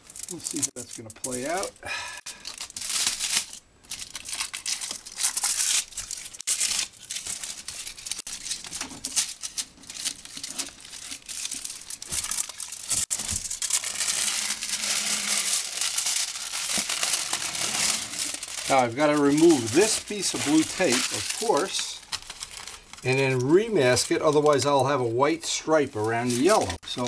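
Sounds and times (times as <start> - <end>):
aluminium foil crinkling: 0.0 - 27.0
masking tape peeling: 2.4 - 24.5.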